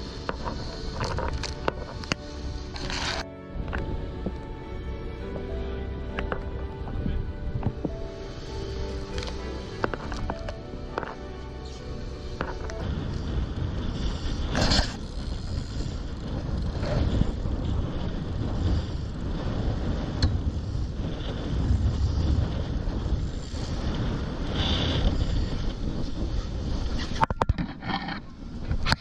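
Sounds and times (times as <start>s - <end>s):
boat engine rumble: 0.0s - 26.7s
rushes of noise: 0.0s - 27.2s
wind buffeting microphone: 0.0s - 29.0s.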